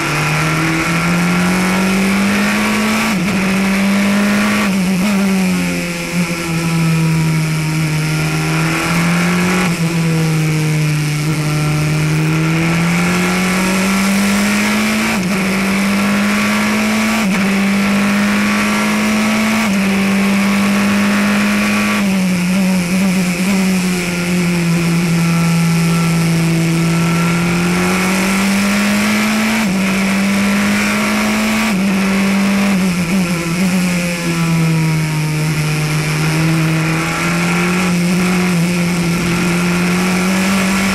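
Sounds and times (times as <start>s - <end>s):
racing car engine accelerating: 0.0s - 40.9s
wind and road noise: 0.0s - 40.9s.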